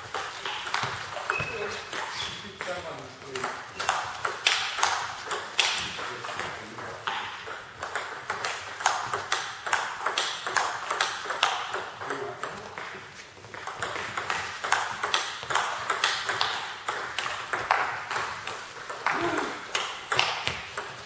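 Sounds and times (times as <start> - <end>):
table tennis ball clicking: 0.2 - 12.9, 13.6 - 21.0.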